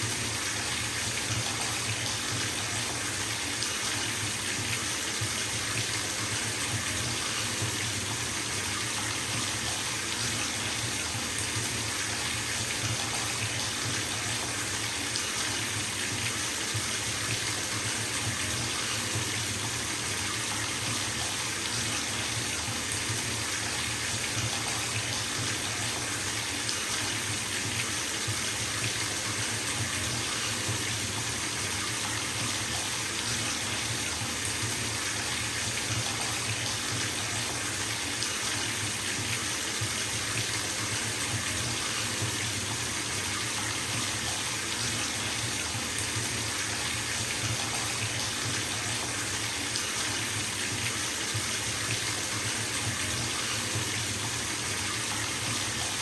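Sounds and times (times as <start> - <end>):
tap running into bathtub: 0.0 - 56.0.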